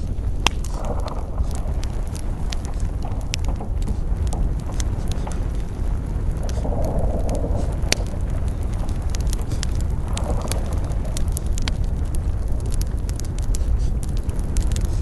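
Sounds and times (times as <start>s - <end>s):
campfire crackling and popping: 0.0s - 15.0s
rush of flame: 0.0s - 15.0s.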